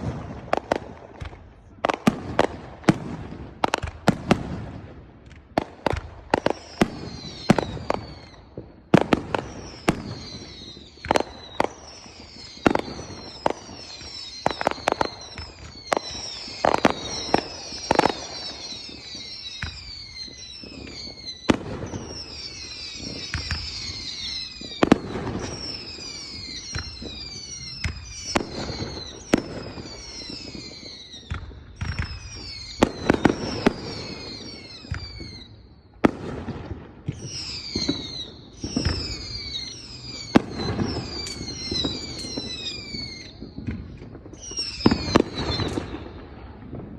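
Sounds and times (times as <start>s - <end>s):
fireworks bangs: 0.0s - 46.9s
fireworks whistling: 0.0s - 46.9s.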